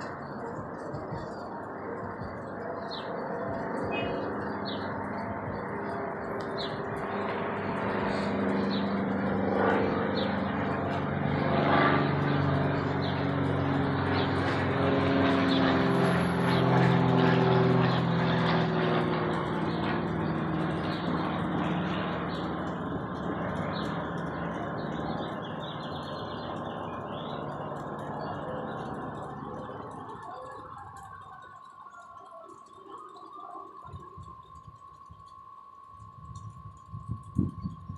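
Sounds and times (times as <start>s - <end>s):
airplane passing overhead: 0.0s - 37.9s.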